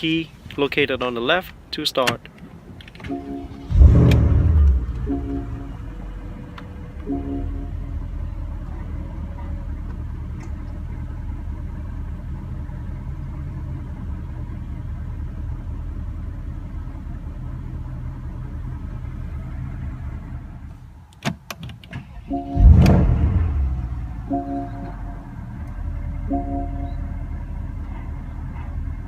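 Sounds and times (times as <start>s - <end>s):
car engine idling: 2.4s - 21.1s, 22.0s - 29.0s.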